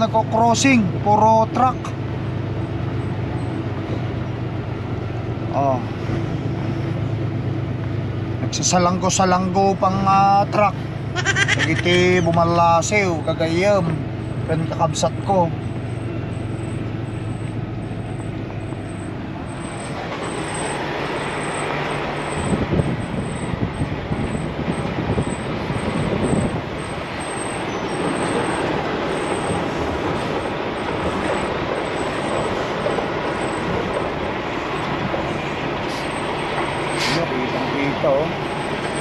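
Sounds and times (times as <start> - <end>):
road and traffic noise: 0.0 - 39.0
truck engine hum: 0.0 - 39.0.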